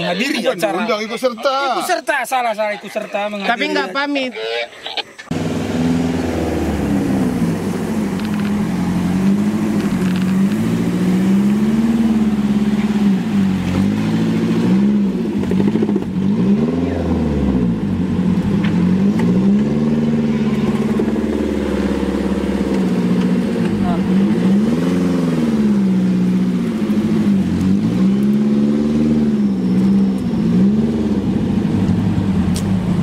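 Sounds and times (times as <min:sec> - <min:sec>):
off-road vehicle engine revving: 0:05.2 - 0:33.0.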